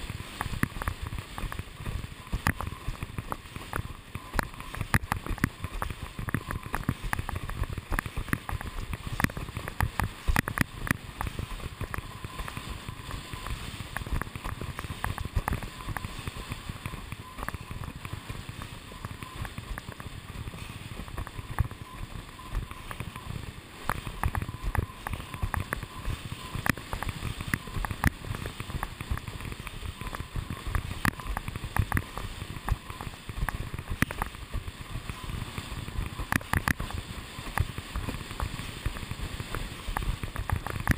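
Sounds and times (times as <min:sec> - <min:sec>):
rush of water and wind: 0:00.0 - 0:40.9.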